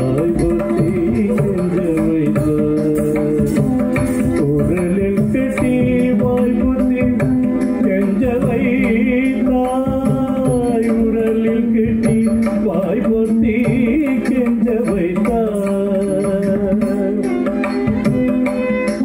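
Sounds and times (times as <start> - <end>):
drum strokes: 0.0 - 19.0
sung melody: 0.0 - 19.0.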